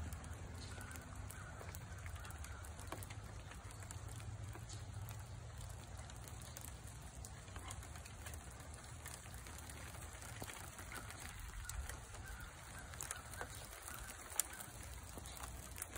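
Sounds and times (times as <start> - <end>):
light ticks and drips: 0.0 - 15.9.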